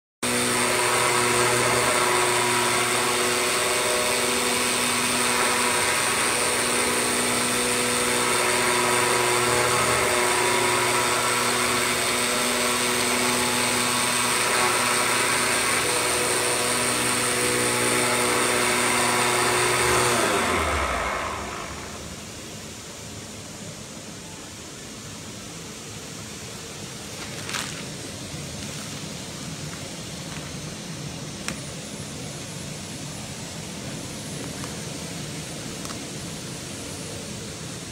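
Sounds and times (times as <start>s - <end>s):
cutting machine hum and whine: 0.2s - 25.4s, 26.2s - 37.9s
machine hiss: 0.3s - 37.9s.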